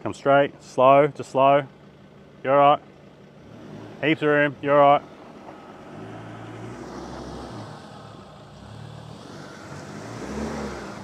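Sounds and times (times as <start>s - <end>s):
diesel engine at low revs: 0.0s - 11.0s.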